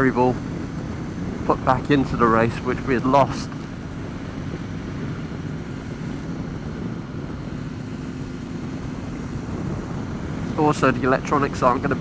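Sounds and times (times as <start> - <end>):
motorcycle engine humming: 0.0 - 12.0.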